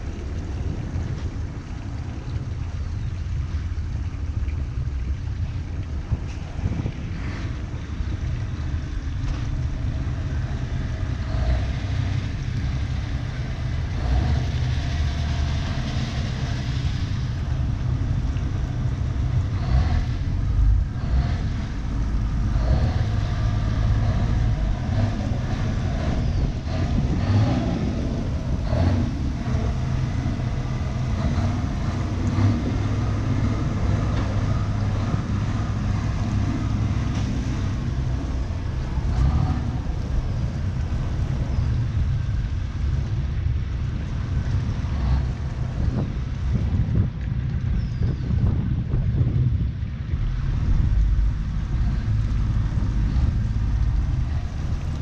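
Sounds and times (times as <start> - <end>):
outboard motor droning: 0.0 - 55.0.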